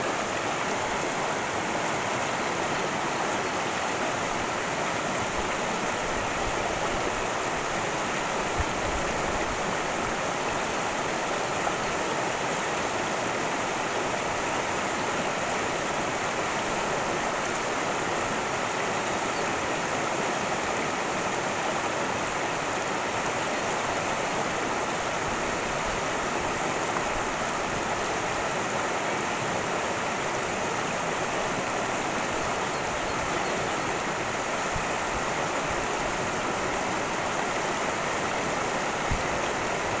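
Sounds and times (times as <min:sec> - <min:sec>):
water rushing in stream: 0:00.0 - 0:40.0.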